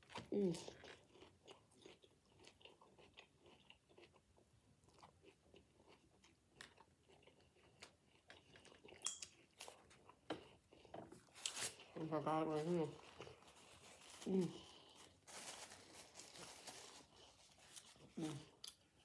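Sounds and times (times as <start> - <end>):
person chewing salad: 0.0 - 12.0, 12.9 - 19.0.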